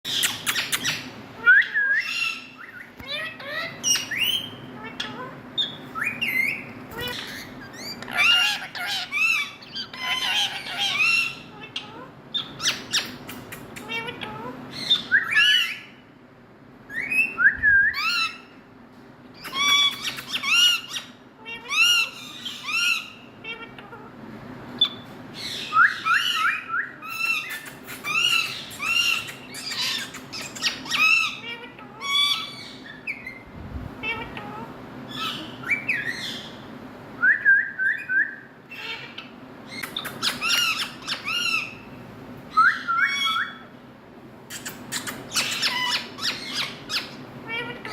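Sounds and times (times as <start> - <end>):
parrots calling: 0.1 - 16.0, 16.9 - 18.6, 19.3 - 24.1, 24.8 - 36.7, 38.7 - 43.7, 44.5 - 47.9.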